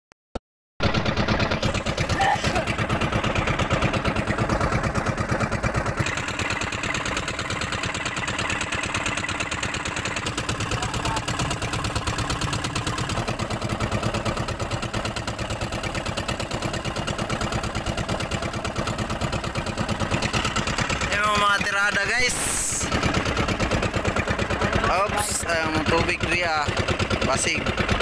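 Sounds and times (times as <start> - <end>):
boat engine running: 0.8 - 28.0.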